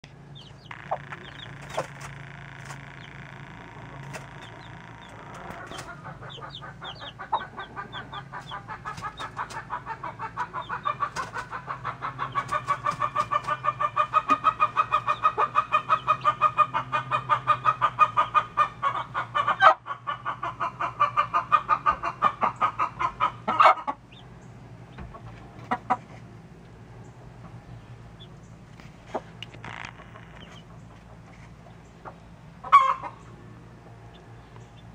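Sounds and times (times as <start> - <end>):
chick peeps: 0.0 - 26.2, 28.2 - 33.4
chicken clucking: 0.4 - 24.3, 24.9 - 26.2, 29.0 - 33.3.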